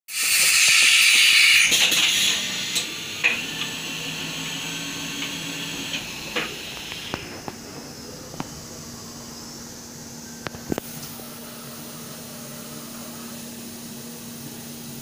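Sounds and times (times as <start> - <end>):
compressed air hissing: 0.1 - 14.9
milling machine humming: 0.4 - 15.0.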